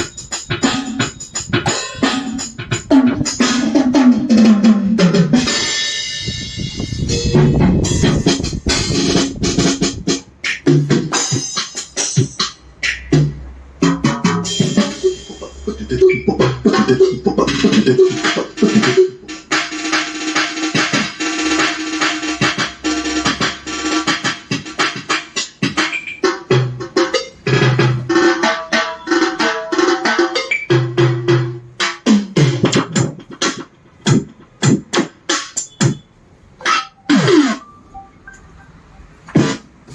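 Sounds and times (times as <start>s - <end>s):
electronic drum pattern: 0.0s - 39.9s.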